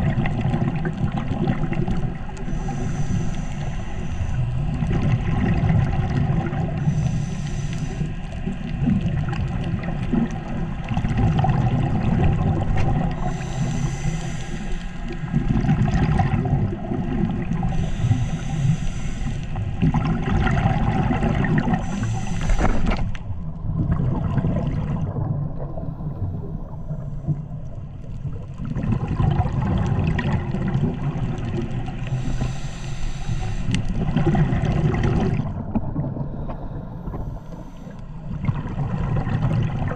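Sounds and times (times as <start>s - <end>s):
diver breathing and exhaled bubbles: 0.0s - 39.9s
underwater rumble of moving water: 0.0s - 39.9s.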